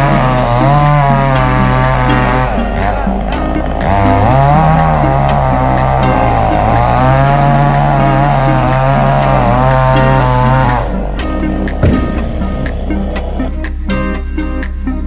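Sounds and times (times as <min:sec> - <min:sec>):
chainsaw cutting wood: 0:00.0 - 0:13.5.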